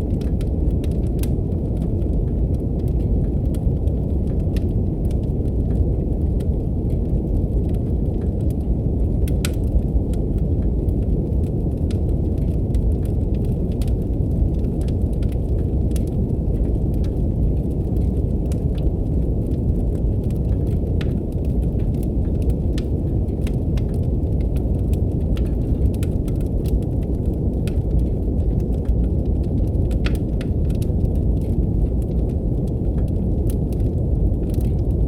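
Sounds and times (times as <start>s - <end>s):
brown noise rumbling hiss: 0.0s - 35.0s
fireplace crackling: 0.1s - 35.0s.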